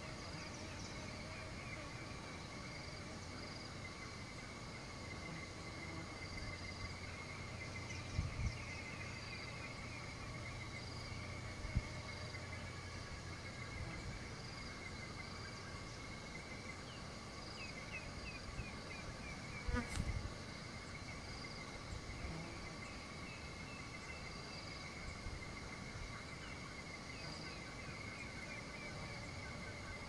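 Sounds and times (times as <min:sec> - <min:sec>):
insect chorus high tones: 0:00.0 - 0:30.0.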